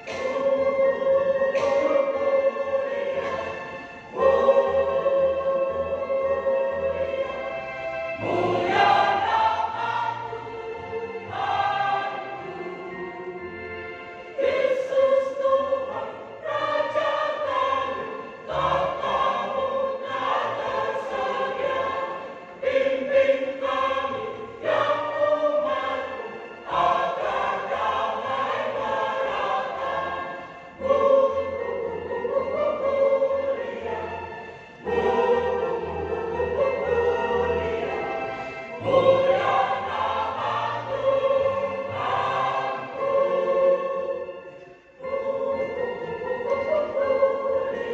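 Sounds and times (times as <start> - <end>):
church choir singing: 0.0 - 47.9.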